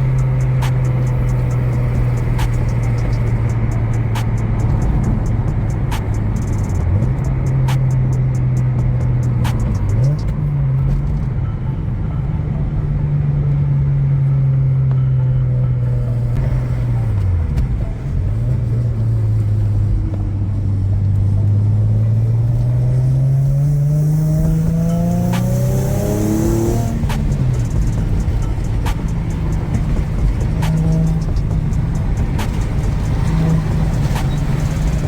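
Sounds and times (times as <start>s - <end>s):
car engine drone: 0.0s - 35.0s.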